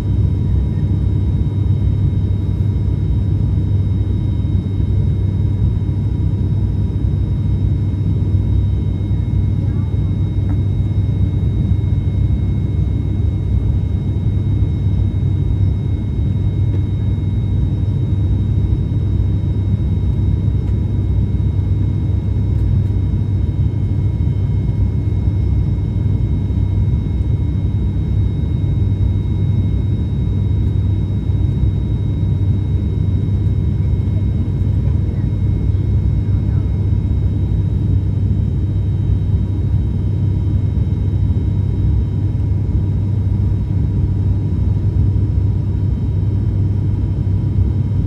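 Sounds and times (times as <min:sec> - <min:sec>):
propeller engine drone: 0:00.0 - 0:48.0.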